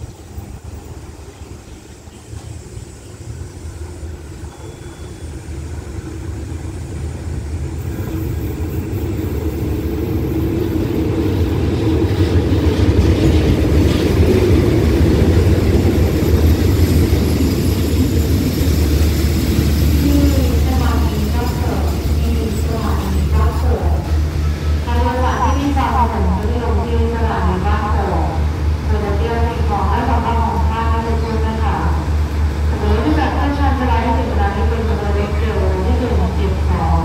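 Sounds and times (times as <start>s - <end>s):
diesel locomotive engine drone: 0.0s - 37.0s
train carriages rumbling past: 0.0s - 37.0s.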